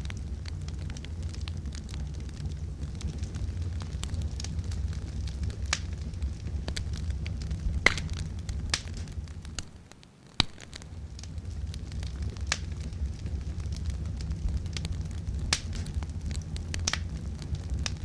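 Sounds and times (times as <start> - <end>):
burning logs crackling and popping: 0.0 - 18.0
campfire low rumble: 0.0 - 18.0.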